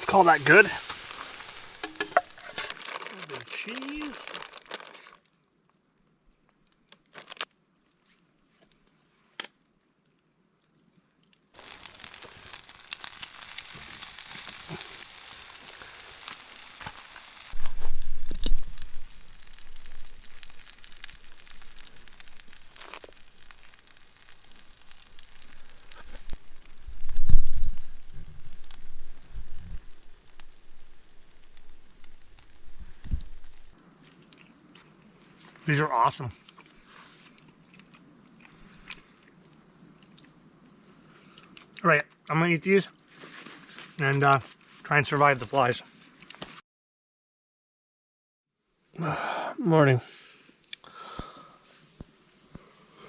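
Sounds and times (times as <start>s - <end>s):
food sizzling over a campfire: 0.0s - 46.6s, 50.1s - 53.0s.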